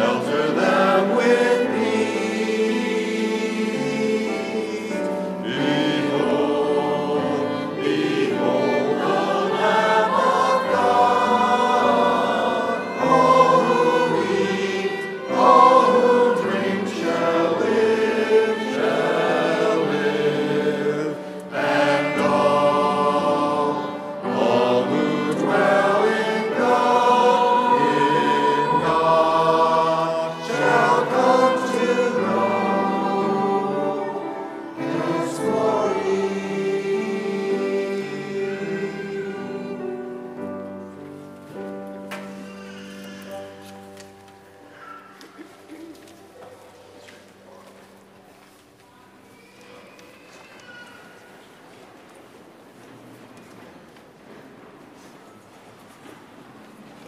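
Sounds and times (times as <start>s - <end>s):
choir singing a hymn: 0.0s - 48.1s.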